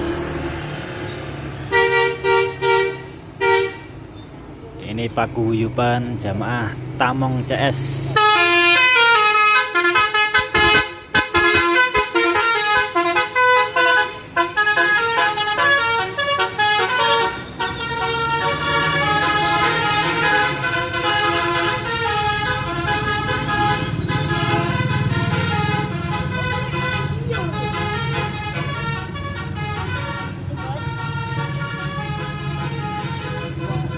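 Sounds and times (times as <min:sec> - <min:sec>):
bus engine humming: 0:00.0 - 0:33.9
musical bus horn playing tunes: 0:01.6 - 0:04.1, 0:08.2 - 0:33.9.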